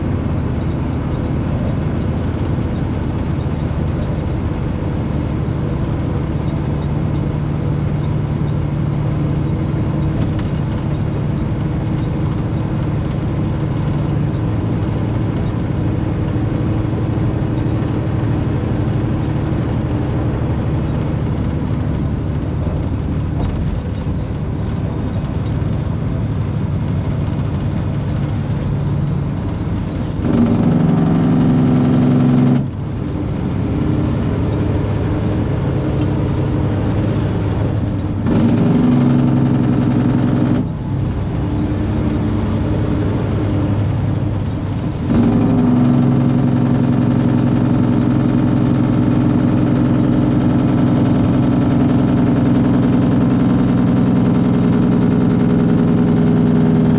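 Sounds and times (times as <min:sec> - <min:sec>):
truck engine and road hum: 0:00.0 - 0:56.9.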